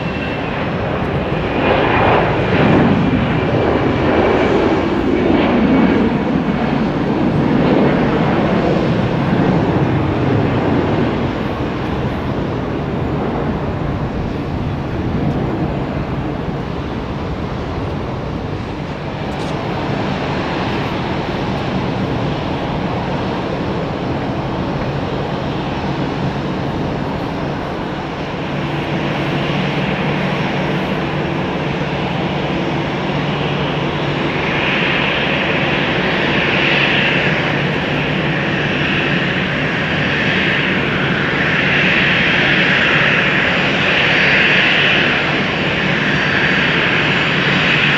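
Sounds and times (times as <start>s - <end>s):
aircraft engines running: 0.0s - 47.9s.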